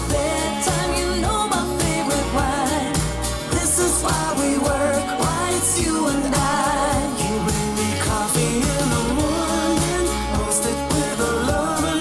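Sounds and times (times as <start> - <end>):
pop song through speakers: 0.0 - 12.0.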